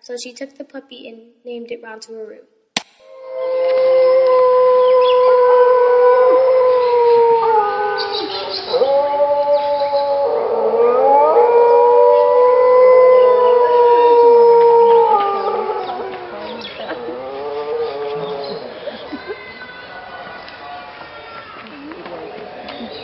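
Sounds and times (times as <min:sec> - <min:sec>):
dingo howling: 0:03.1 - 0:23.0.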